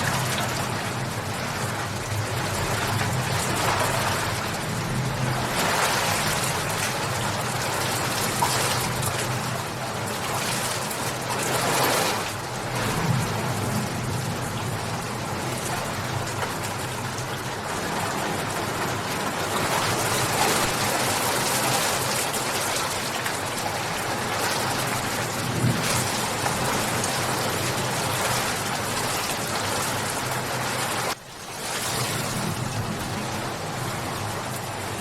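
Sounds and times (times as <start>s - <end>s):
rain pouring: 0.0s - 35.0s.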